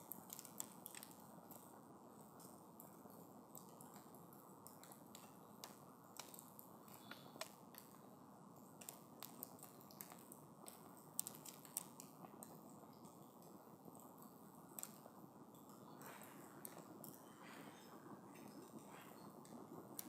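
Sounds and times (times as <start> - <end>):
campfire crackling: 0.0 - 20.0
low steady hiss: 0.0 - 20.0.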